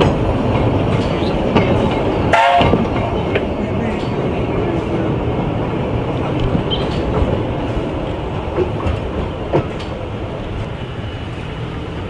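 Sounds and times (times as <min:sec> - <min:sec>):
railway carriages rolling past: 0:00.0 - 0:12.0.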